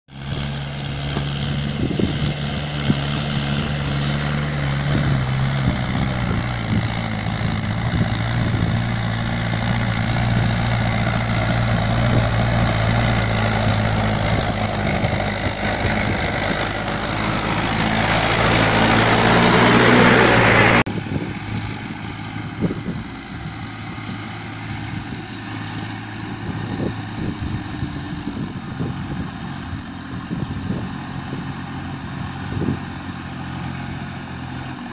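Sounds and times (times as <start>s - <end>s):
diesel tractor engine running: 0.1s - 34.9s
distant tractor engine: 0.1s - 34.9s.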